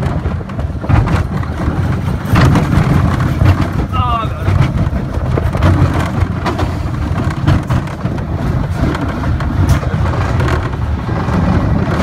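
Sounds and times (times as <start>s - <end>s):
roller coaster rumble: 0.0s - 12.0s.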